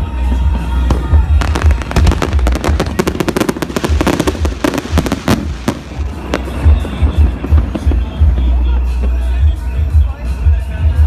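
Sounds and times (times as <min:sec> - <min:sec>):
fireworks cracks and bangs: 0:00.2 - 0:09.7.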